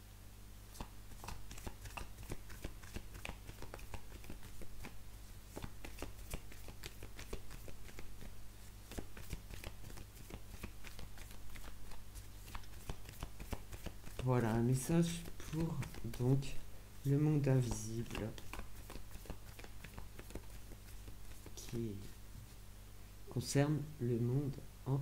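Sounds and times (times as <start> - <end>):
low steady hum: 0.0 - 25.0
cards being shuffled: 0.7 - 22.2.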